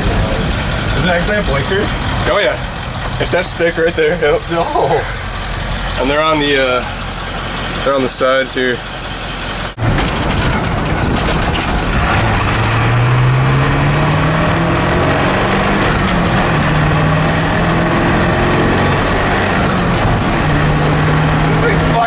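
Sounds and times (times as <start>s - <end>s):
diesel truck engine accelerating: 0.0s - 22.0s.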